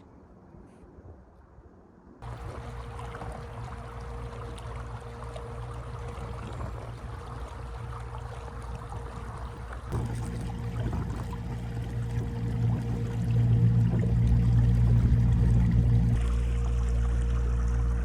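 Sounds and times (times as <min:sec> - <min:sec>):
propeller churning water: 0:02.2 - 0:18.0.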